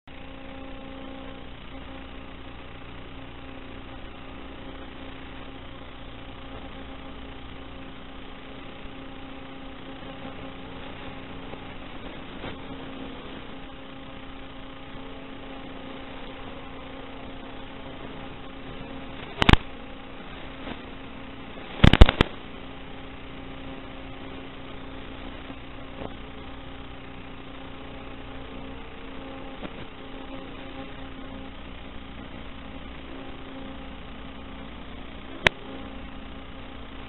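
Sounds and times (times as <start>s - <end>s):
electrical hum and hiss: 0.1s - 37.0s
loud crackles: 0.1s - 37.0s.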